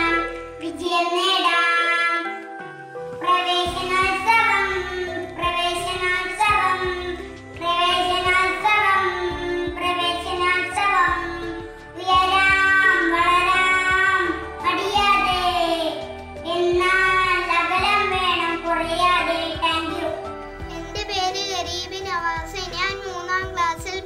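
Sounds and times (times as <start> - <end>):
girl singing: 0.0 - 2.5, 3.2 - 24.0.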